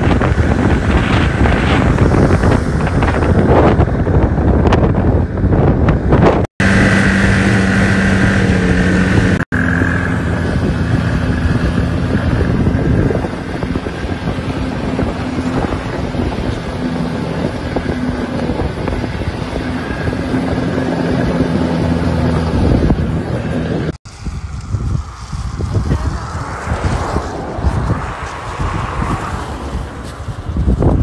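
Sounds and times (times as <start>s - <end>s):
snowmobile engine droning: 0.0s - 31.0s
wind buffeting microphone: 0.0s - 31.0s.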